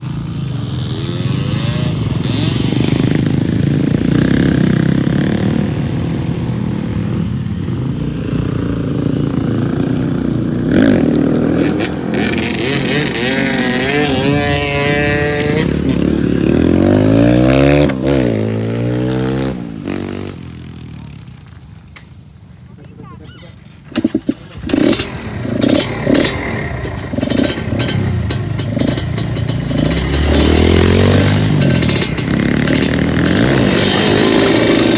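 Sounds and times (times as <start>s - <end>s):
motorcycle engines revving: 0.0s - 22.5s, 23.2s - 34.9s.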